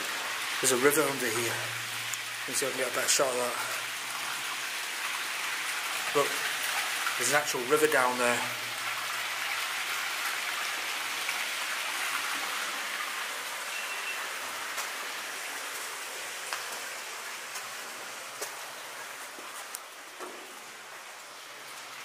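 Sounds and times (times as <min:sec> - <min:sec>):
rushing river water: 0:00.0 - 0:22.0.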